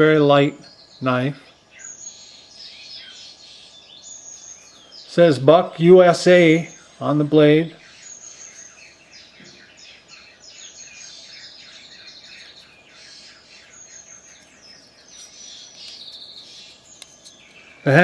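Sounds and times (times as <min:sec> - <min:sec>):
birds chirping and singing: 0:00.0 - 0:18.0
buzzy bird trill: 0:00.0 - 0:18.0.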